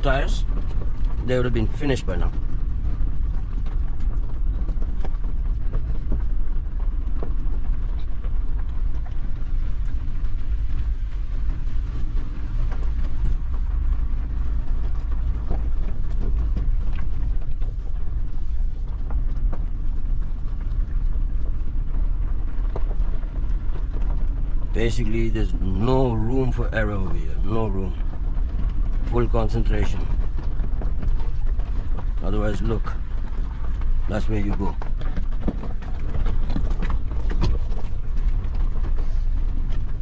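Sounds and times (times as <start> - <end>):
engine and drivetrain rumble: 0.0 - 40.0
light knocks and rattles: 0.0 - 40.0.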